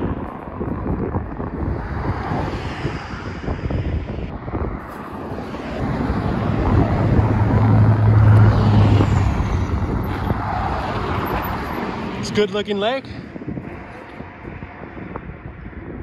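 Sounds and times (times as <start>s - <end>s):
passing road traffic hum: 0.0s - 16.0s
wind rumbling on microphone: 0.0s - 16.0s.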